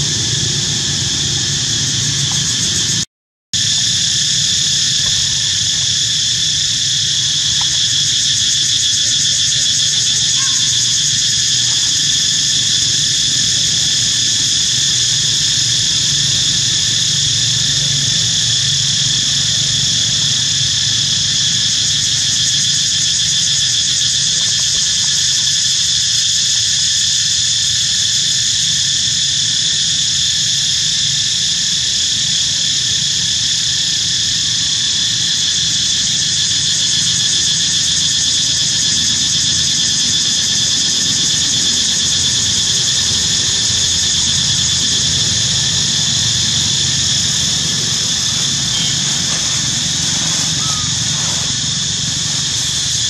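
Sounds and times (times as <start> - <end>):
insects shrilling: 3.6 - 53.0.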